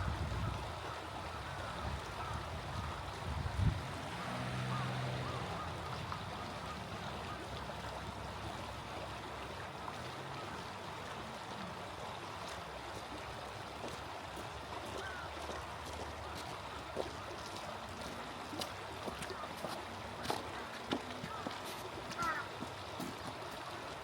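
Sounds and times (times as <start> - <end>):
small stream flowing: 0.0 - 24.0.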